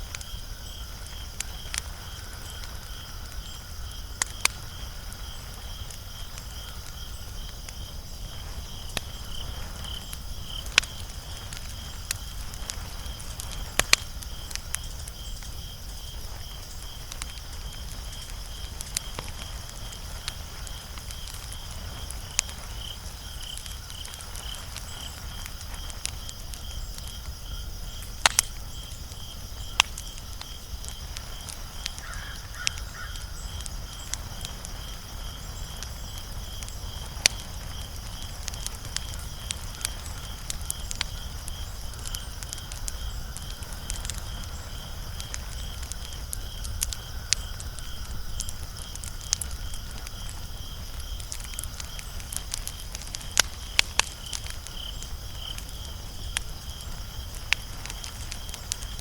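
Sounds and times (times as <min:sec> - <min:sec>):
cricket chirping: 0:00.0 - 0:59.0
wood fire crackling and popping: 0:00.0 - 0:59.0.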